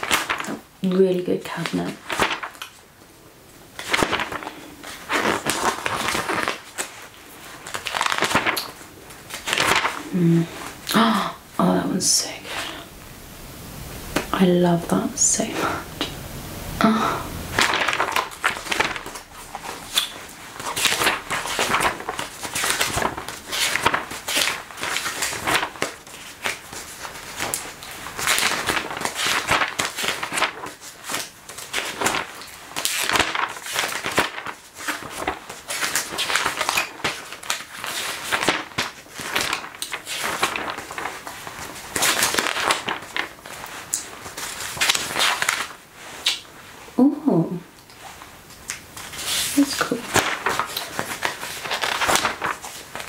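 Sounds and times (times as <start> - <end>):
magazine pages rustling: 0.0 - 11.0, 17.5 - 46.9, 47.8 - 53.0.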